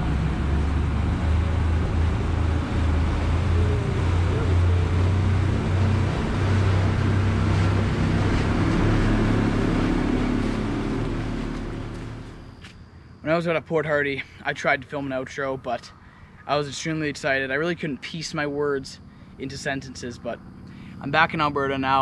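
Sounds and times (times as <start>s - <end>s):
rush of boat wake: 0.0s - 12.6s, 16.0s - 22.0s
outboard motors droning: 0.0s - 22.0s.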